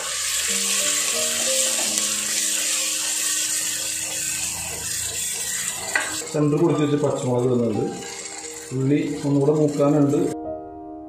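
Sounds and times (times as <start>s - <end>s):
onions sizzling in oil: 0.0s - 10.4s
wooden spoon stirring: 0.0s - 10.4s
soft background music: 0.2s - 11.0s.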